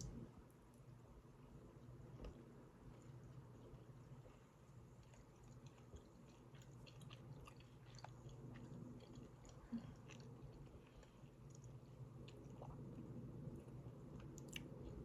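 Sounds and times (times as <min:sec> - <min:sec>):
faint chewing: 0:01.7 - 0:15.0.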